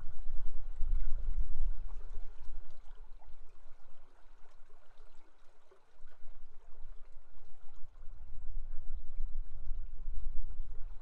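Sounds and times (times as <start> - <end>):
river water running: 0.0 - 11.0.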